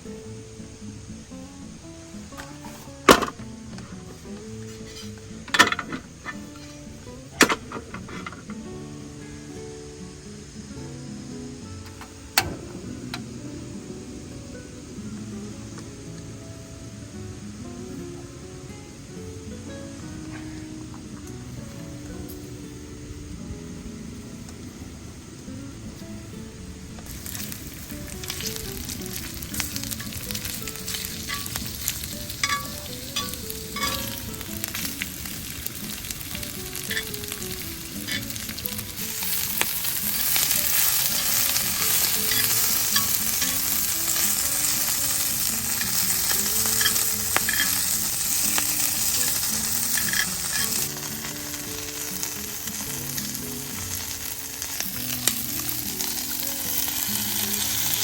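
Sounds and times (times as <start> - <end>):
food sizzling in a frying pan: 0.0 - 58.0
soft background music: 0.0 - 58.0.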